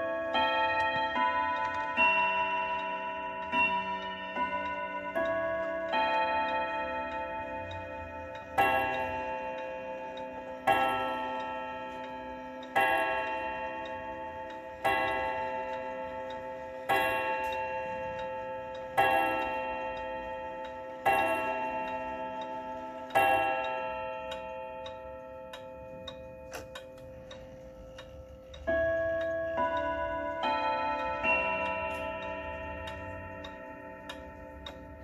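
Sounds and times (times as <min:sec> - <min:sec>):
clock chime strokes: 0:00.0 - 0:35.0
clock ticking: 0:00.0 - 0:35.0.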